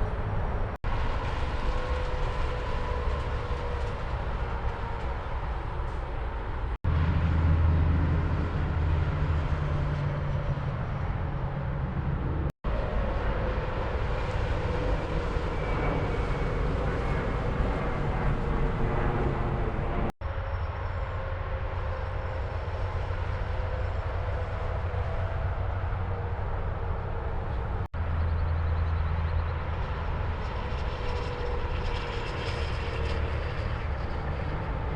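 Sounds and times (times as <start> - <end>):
highway traffic noise: 0.0 - 34.9
low engine drone: 0.0 - 34.9.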